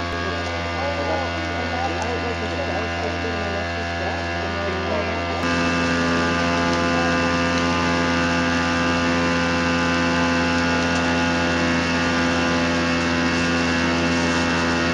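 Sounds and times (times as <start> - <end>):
small engine droning: 0.0 - 14.9.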